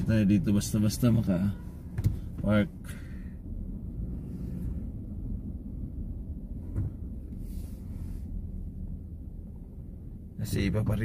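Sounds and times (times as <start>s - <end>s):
car engine rumble: 0.0s - 11.0s
road noise inside cabin: 0.0s - 11.0s.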